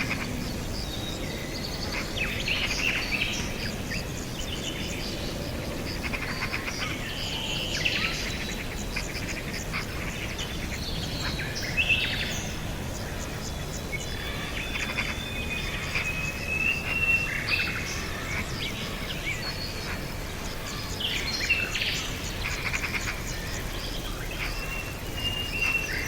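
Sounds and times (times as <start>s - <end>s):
small birds chirping: 0.0s - 26.0s
steady low background noise: 0.0s - 26.0s.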